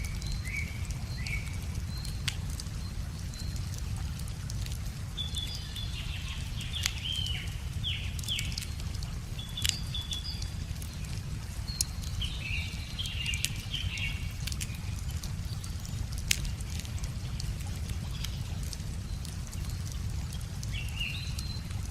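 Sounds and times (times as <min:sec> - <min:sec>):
songbird singing: 0:00.0 - 0:03.9, 0:04.5 - 0:21.9
wood fire crackling and popping: 0:00.0 - 0:05.8, 0:06.4 - 0:21.9.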